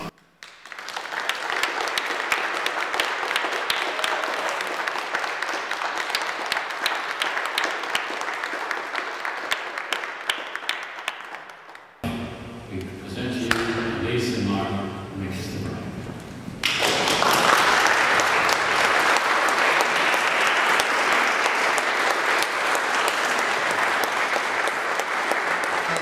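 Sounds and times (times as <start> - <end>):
crowd applauding: 0.0 - 12.1, 16.6 - 26.0.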